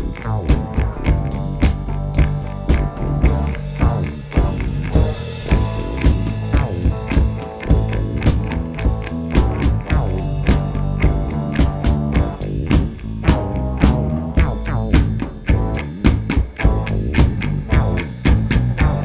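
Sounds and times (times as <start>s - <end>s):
bass: 0.0s - 19.0s
drum kit steady beat: 0.0s - 19.0s
guitar: 0.0s - 19.0s.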